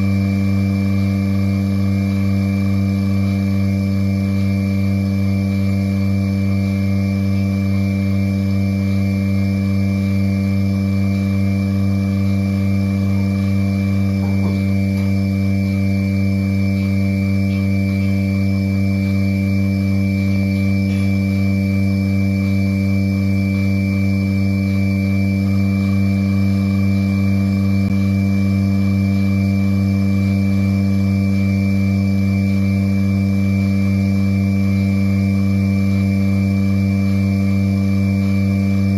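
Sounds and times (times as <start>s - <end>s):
vacuum pump humming: 0.0s - 38.9s.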